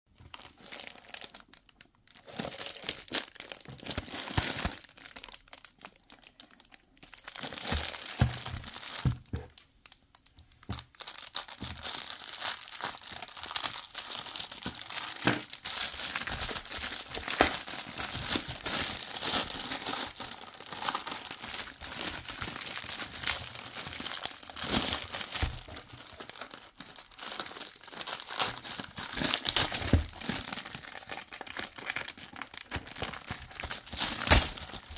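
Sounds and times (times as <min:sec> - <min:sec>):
plastic crinkling and rustling: 0:00.2 - 0:34.9.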